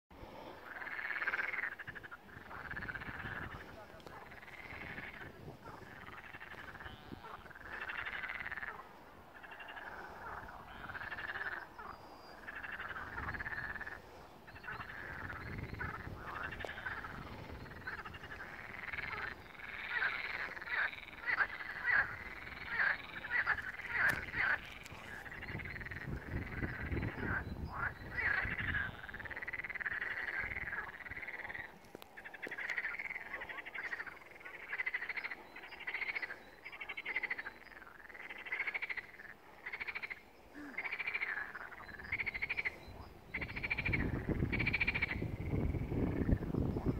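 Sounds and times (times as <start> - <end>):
chorus of frogs calling: 0.4 - 46.9.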